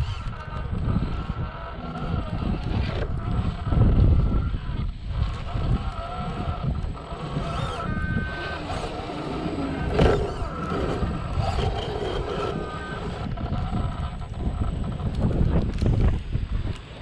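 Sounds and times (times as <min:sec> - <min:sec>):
electric motor whining: 0:00.0 - 0:17.0
low rumbling noise: 0:00.0 - 0:17.0.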